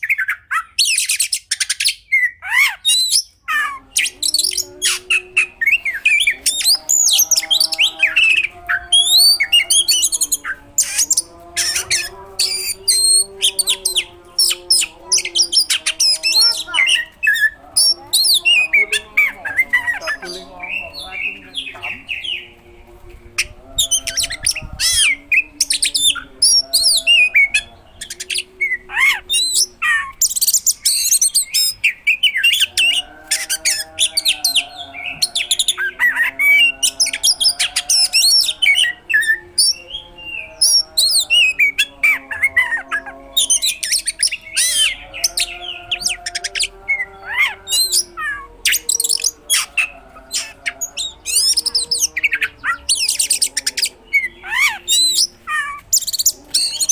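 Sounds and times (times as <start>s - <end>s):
bird singing rapid chirps and trills: 0.0s - 56.9s
low steady bird warble: 3.3s - 56.9s.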